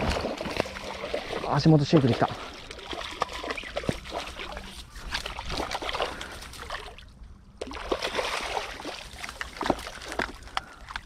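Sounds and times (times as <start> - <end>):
water lapping at bank: 0.0 - 11.0.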